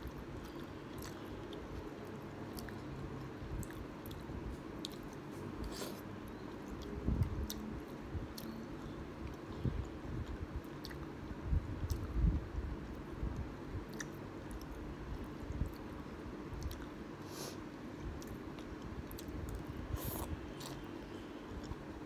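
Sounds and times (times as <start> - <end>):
person chewing food: 0.0 - 11.1, 11.8 - 12.2, 12.8 - 17.0, 18.1 - 21.8.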